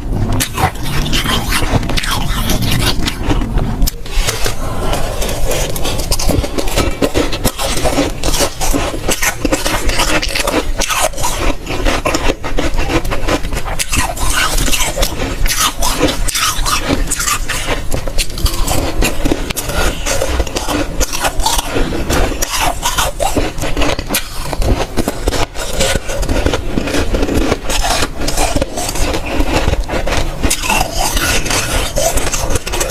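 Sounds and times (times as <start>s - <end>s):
frost crunching being chewed: 0.0s - 32.9s.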